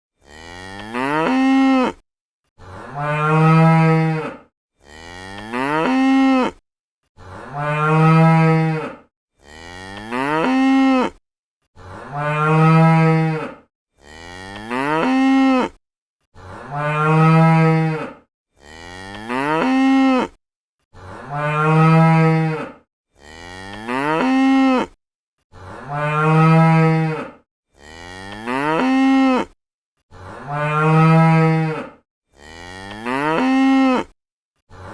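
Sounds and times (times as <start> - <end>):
cow mooing: 0.2 - 2.0, 2.6 - 6.6, 7.2 - 11.2, 11.8 - 15.8, 16.4 - 20.4, 21.0 - 34.9.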